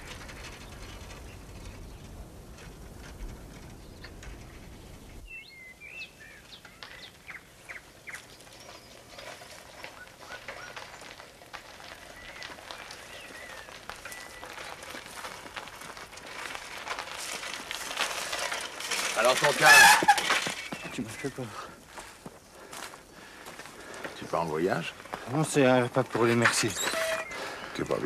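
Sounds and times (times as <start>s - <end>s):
birds chirping: 0.0s - 15.0s, 19.2s - 28.0s
bicycle tyres on gravel: 0.0s - 28.0s.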